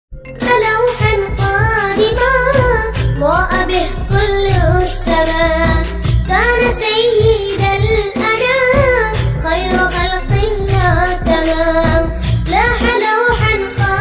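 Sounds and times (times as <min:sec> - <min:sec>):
low bass notes and beat: 0:00.2 - 0:14.0
high voice singing melody: 0:00.4 - 0:14.0.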